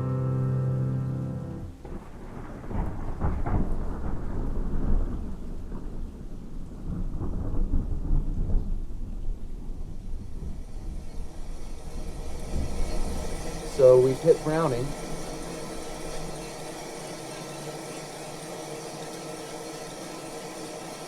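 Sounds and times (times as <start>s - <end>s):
rain falling: 0.6s - 21.0s.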